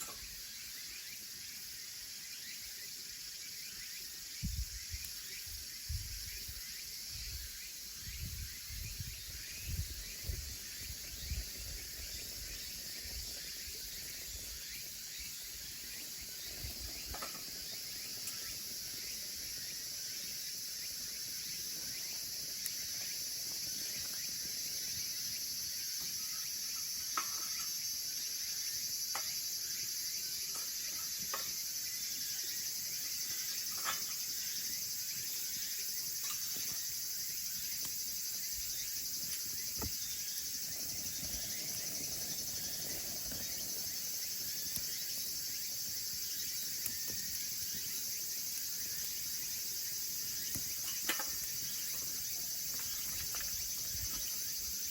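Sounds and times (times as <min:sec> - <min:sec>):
fire hissing in wood stove: 0:00.0 - 0:54.9
firewood crackles: 0:00.0 - 0:54.9.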